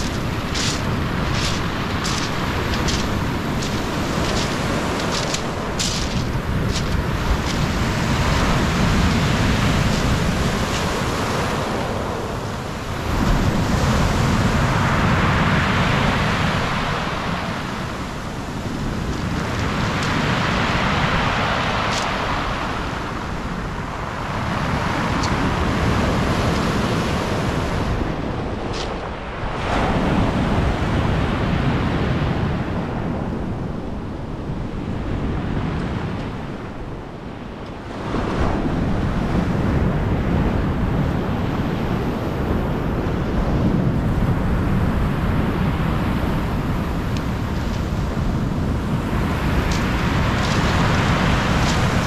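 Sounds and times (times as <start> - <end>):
waves breaking on shore: 0.0 - 52.0
wind rumble on microphone: 0.0 - 52.0.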